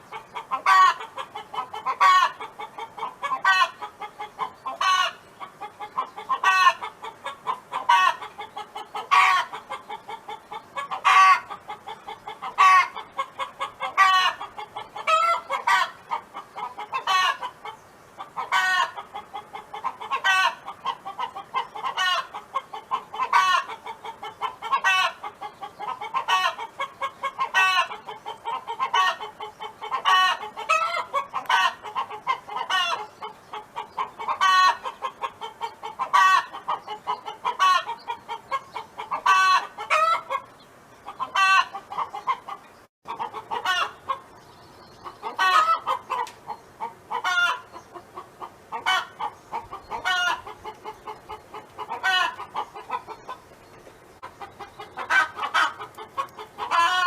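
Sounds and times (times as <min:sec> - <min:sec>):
hen clucking and calling: 0:00.0 - 0:57.0.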